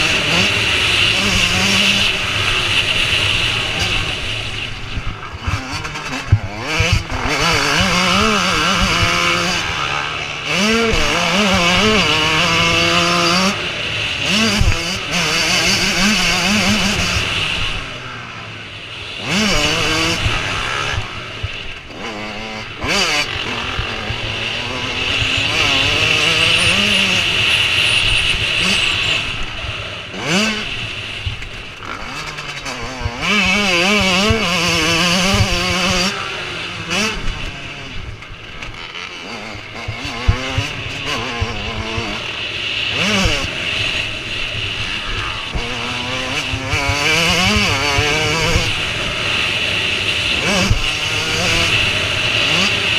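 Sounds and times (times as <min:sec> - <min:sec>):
motocross motorcycle engines revving: 0:00.0 - 0:52.9.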